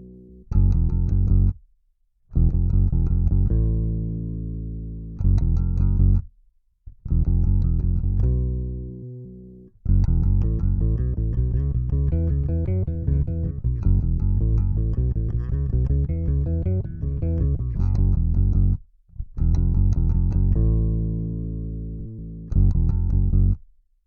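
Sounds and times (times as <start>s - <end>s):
electric bass guitar plucked notes: 0.0s - 1.6s, 2.3s - 6.3s, 6.9s - 23.6s.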